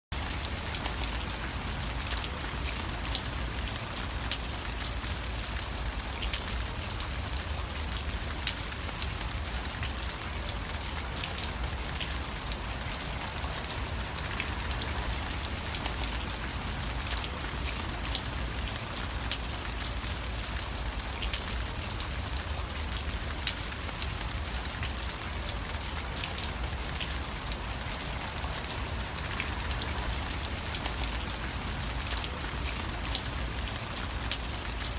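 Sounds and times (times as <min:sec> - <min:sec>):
rain drop ticks: 0:00.1 - 0:34.9
rain hiss: 0:00.1 - 0:34.9.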